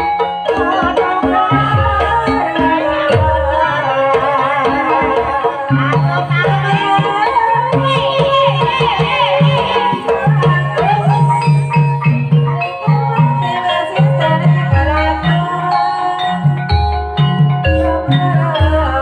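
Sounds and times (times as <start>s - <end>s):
person singing: 0.0s - 17.0s, 17.7s - 19.0s
repeating keyed percussion: 0.0s - 19.0s.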